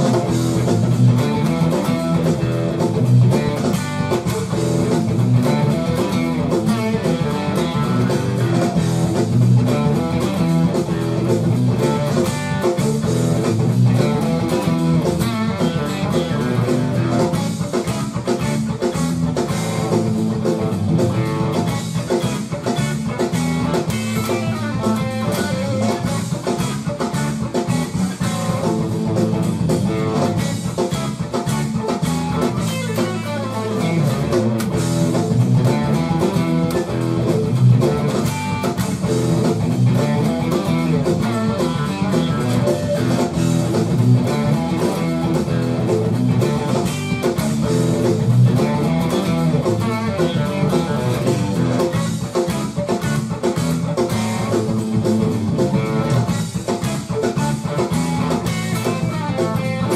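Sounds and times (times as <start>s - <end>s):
electric guitar blues-rock boogie: 0.0s - 59.9s
steady drum beat: 0.0s - 59.9s.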